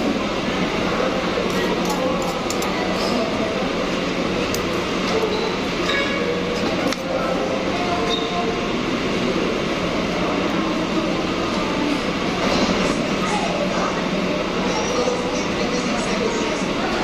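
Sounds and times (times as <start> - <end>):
background chatter: 0.0 - 17.0
ventilation noise: 0.0 - 17.0.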